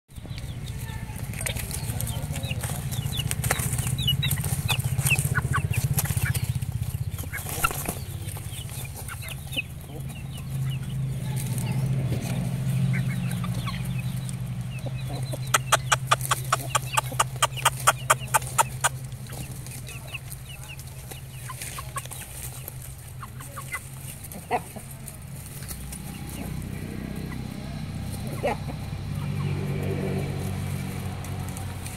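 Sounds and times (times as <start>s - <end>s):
chickens clucking: 0.2s - 31.9s.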